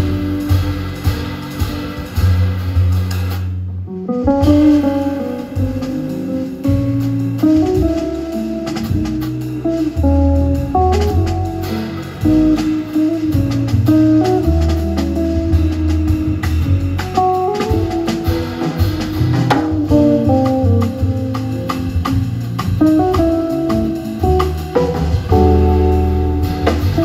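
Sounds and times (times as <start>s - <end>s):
guitar melody: 0.0s - 2.2s, 3.8s - 27.0s
drums with light cymbals: 0.0s - 27.0s
upright double bass: 0.0s - 27.0s.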